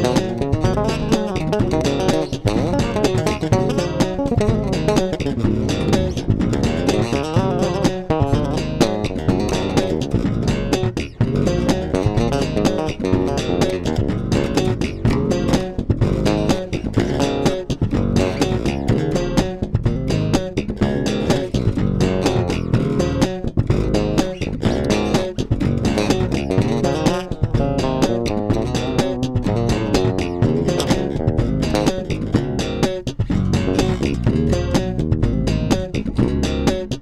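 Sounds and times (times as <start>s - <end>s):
electric bass played fingerstyle: 0.0s - 37.0s.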